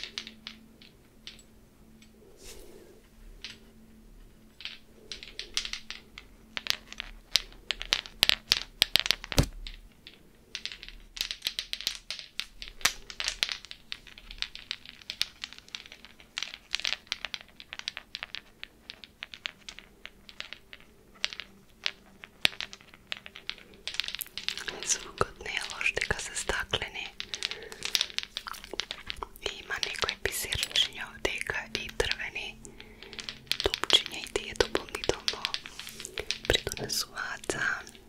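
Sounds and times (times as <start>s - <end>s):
fingernails tapping on ornaments: 4.5s - 38.0s.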